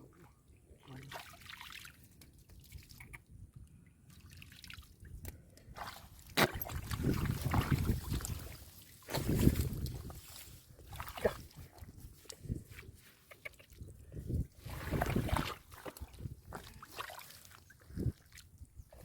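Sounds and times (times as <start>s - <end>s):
muddy water dripping and trickling: 0.1s - 12.8s, 13.6s - 19.0s
sloshing in muddy water: 0.2s - 3.2s, 4.1s - 5.0s, 5.7s - 12.6s, 13.7s - 19.0s.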